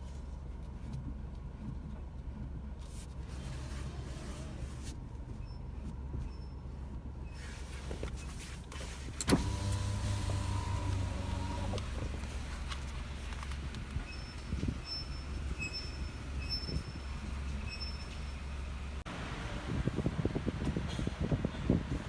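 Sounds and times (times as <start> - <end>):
low cabin rumble: 0.0 - 22.0.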